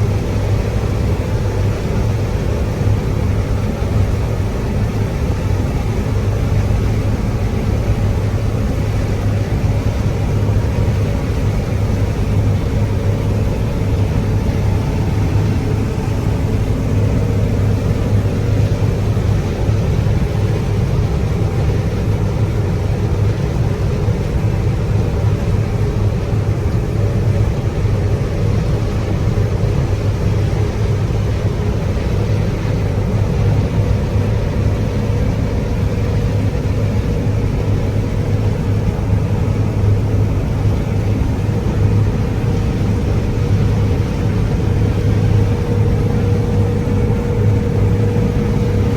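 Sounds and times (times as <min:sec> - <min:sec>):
combine harvester engine drone: 0:00.0 - 0:48.9.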